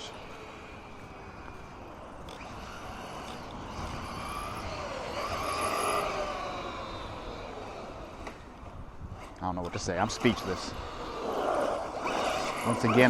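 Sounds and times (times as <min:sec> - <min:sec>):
toy car motor whining: 0:00.0 - 0:13.0
tyres on pavement: 0:00.0 - 0:13.0.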